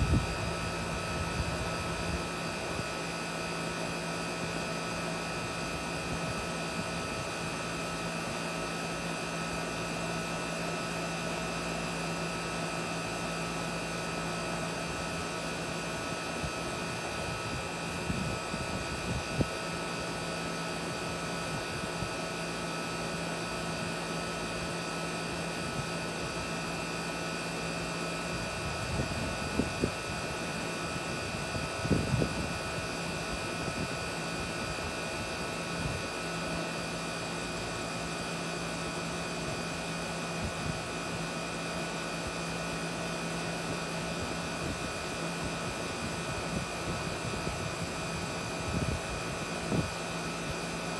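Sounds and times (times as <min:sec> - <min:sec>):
air conditioner unit humming: 0:00.0 - 0:50.9.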